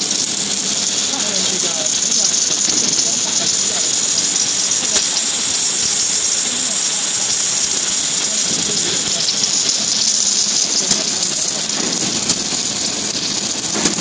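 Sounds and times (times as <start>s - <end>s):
welding arc hissing and crackling: 0.0s - 14.0s.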